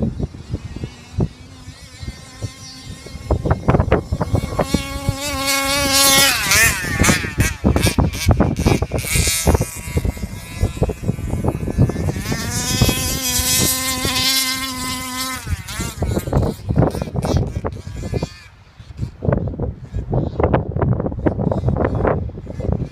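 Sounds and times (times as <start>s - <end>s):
two-stroke engine high revs: 0.0s - 19.2s.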